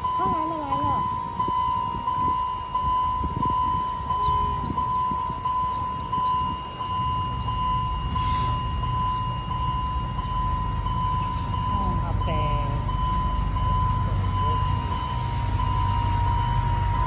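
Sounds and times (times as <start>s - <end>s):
pulsing electronic warning tone: 0.0s - 17.0s.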